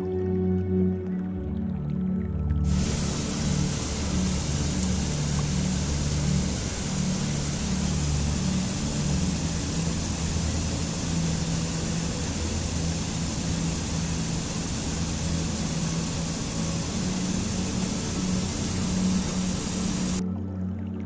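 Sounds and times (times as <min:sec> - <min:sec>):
low hum: 0:02.5 - 0:21.0
rushing water: 0:02.6 - 0:20.5.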